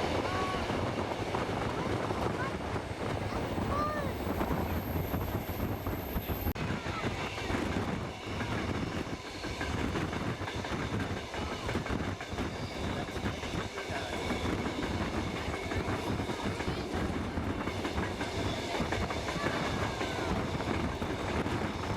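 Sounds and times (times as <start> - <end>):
train carriages rumbling on rails: 0.0 - 21.9.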